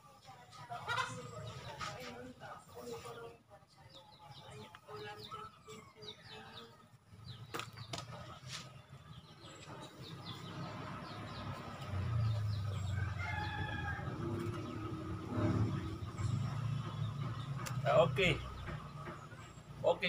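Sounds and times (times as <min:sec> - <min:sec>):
small birds chirping: 0:00.0 - 0:20.0
chickens calling: 0:00.4 - 0:20.0.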